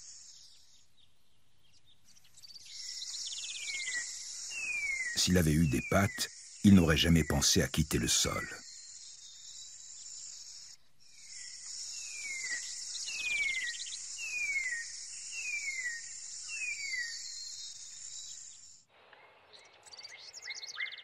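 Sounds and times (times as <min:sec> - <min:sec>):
high-pitched insect chorus: 0:00.0 - 0:00.8, 0:02.6 - 0:18.8.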